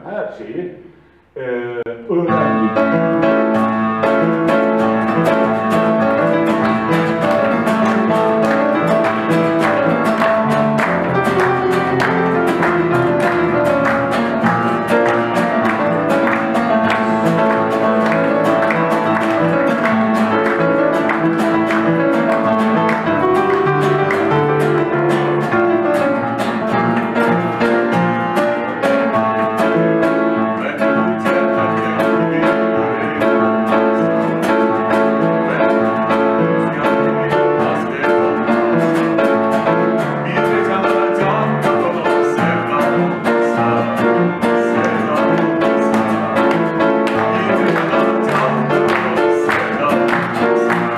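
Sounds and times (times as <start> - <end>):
upright piano: 0.0 - 50.9
acoustic guitar: 2.0 - 50.9.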